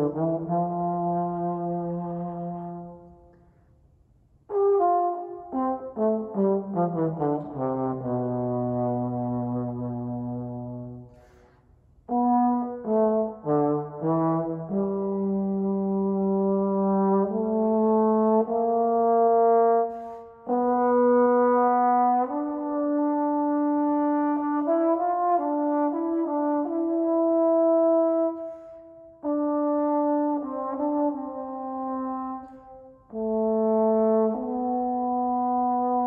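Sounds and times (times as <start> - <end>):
solo trombone playing: 0.0 - 3.4, 4.4 - 11.4, 12.0 - 36.0.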